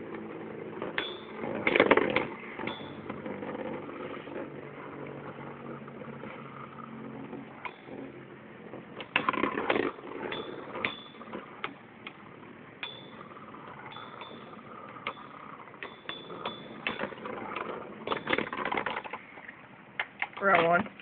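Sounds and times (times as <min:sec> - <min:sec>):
spinning tops whirring: 0:00.0 - 0:21.0.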